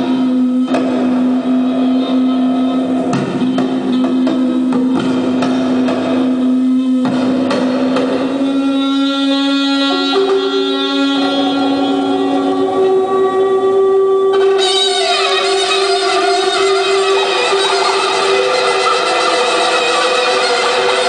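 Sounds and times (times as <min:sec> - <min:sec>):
long held note: 0:00.0 - 0:21.0
plucked string instrument: 0:00.0 - 0:21.0.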